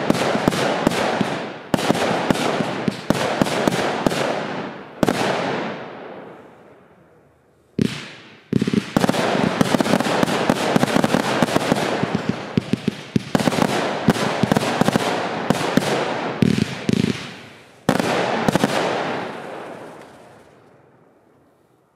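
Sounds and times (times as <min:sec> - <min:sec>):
firework bangs and crackling: 0:00.0 - 0:06.6, 0:07.8 - 0:20.9.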